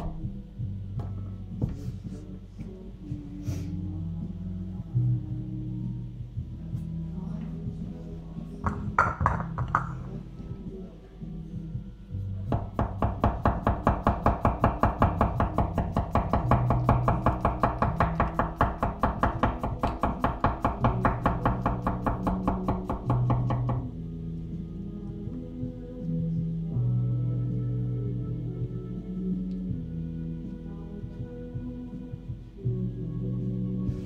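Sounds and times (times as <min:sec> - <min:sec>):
soft background music: 0:00.0 - 0:34.0.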